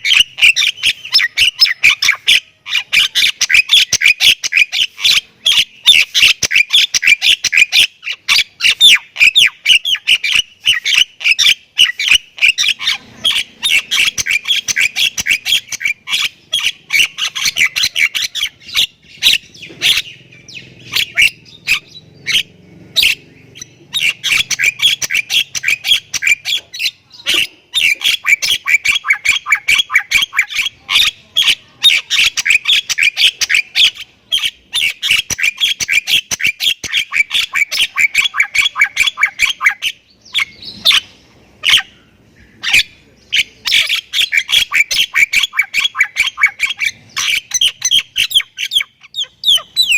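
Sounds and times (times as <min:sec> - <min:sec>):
myna chattering harsh calls: 0:00.0 - 0:49.9.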